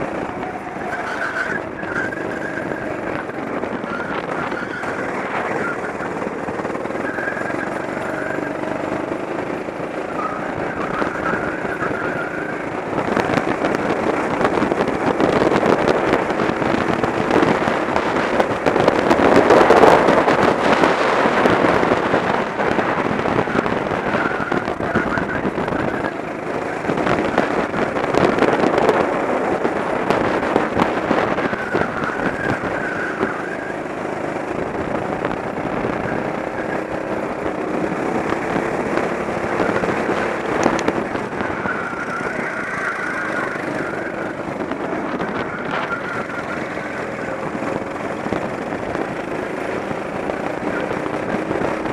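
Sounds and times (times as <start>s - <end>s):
go-kart engine running hard: 0.0s - 51.9s
wind buffeting microphone: 0.0s - 51.9s.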